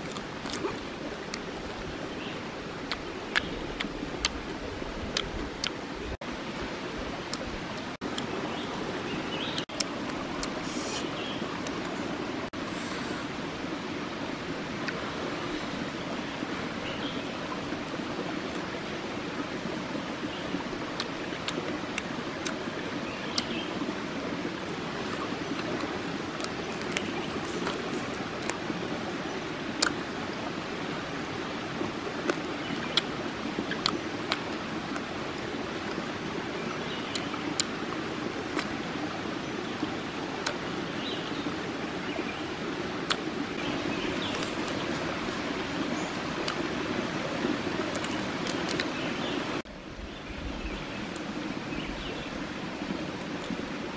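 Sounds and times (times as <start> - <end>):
stream babbling: 0.0 - 53.9.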